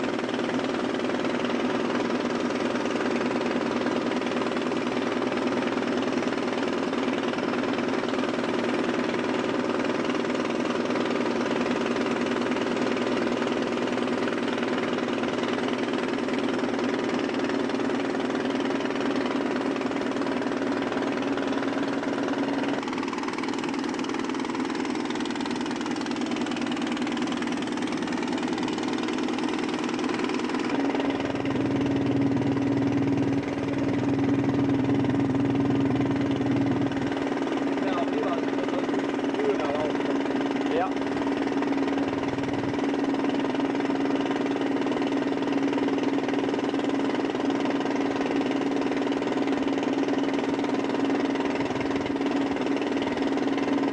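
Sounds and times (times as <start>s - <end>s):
boat engine running: 0.0s - 53.9s.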